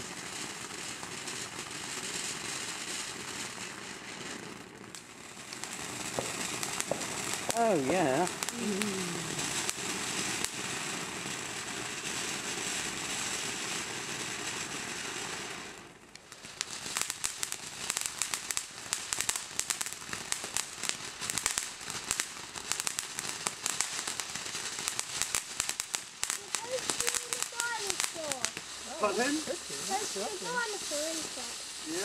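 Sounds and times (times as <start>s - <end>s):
fireworks crackling pops: 0.0s - 32.0s
fireworks hissing: 0.0s - 32.0s.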